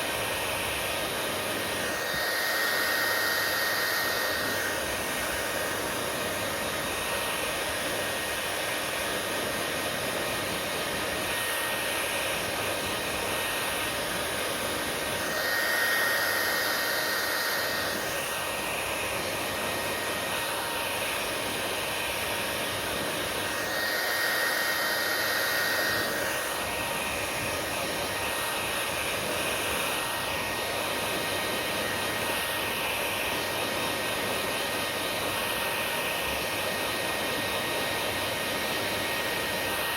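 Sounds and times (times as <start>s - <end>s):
hair dryer blowing with high whine: 0.0s - 39.9s.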